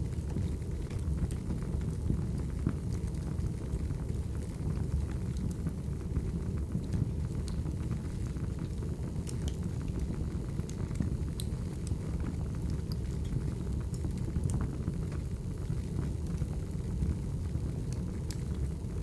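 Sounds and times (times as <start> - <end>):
burning logs rumble: 0.0 - 19.0
fire pops and crackles: 0.0 - 19.0.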